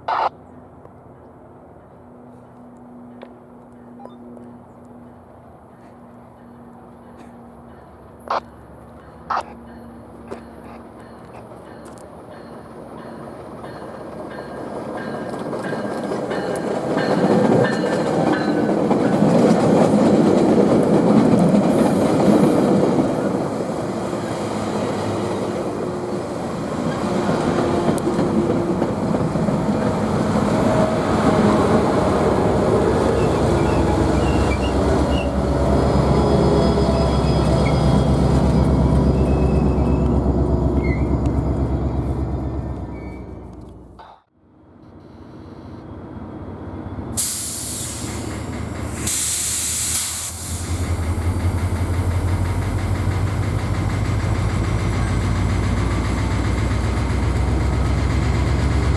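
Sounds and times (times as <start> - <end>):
train wheels on rails: 4.9 - 44.2, 44.9 - 58.9.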